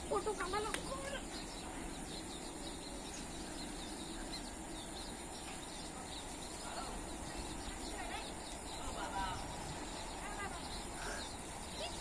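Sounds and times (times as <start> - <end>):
small birds chirping: 0.0 - 12.0
steady background hiss: 0.0 - 12.0.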